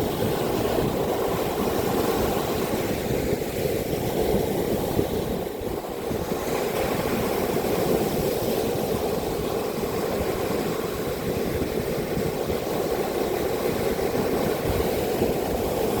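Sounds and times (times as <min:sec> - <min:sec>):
heavy surf: 0:00.0 - 0:16.0
strong wind buffeting microphone: 0:00.0 - 0:16.0.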